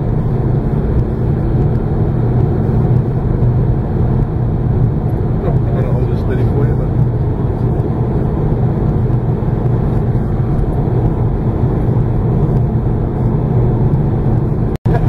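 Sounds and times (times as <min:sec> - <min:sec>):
car driving at highway speed: 0:00.0 - 0:15.0.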